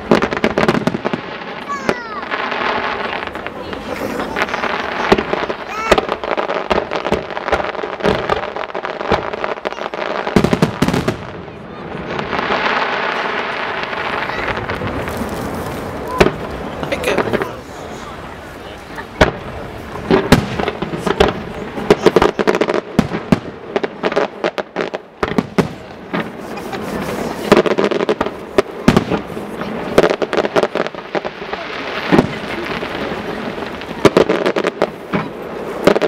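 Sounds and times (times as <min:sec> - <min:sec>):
fireworks bursting and banging: 0:00.0 - 0:36.0.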